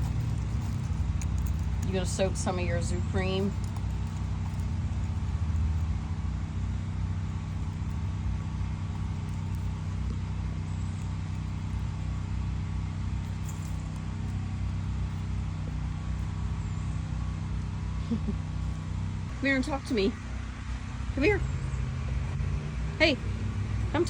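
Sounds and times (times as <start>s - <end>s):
generator engine droning: 0.0s - 24.0s.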